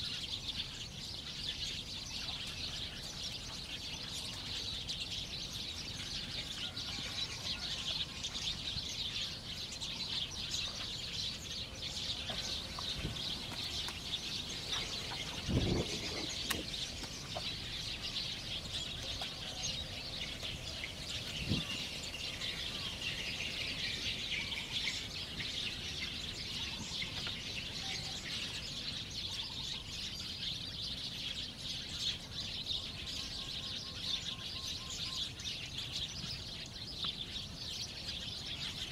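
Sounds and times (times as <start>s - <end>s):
chorus of birds chirping: 0.0s - 38.9s.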